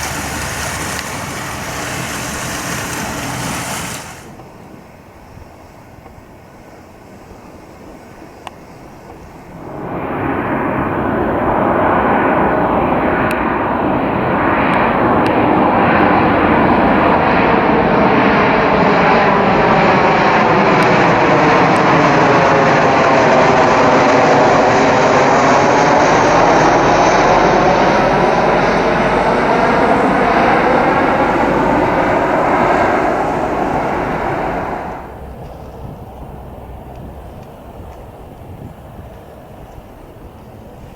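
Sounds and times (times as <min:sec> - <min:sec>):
airliner passing close by: 0:00.0 - 0:40.9.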